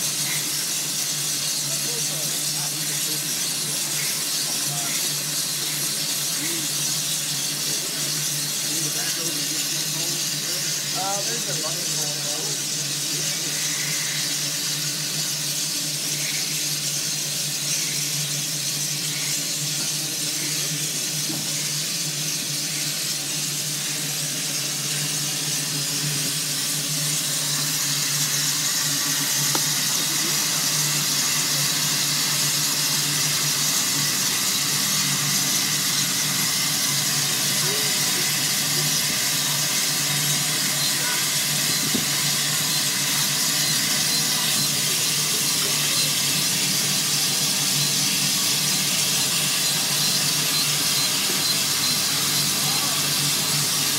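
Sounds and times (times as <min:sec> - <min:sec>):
steam hissing from engine: 0:00.0 - 0:53.9.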